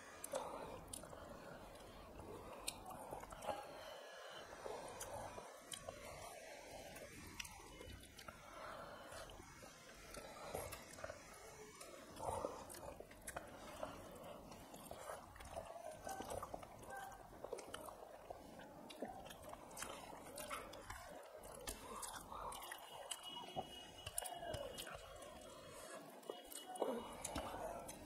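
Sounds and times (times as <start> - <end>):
people chewing and lip smacking: 0.0 - 28.0.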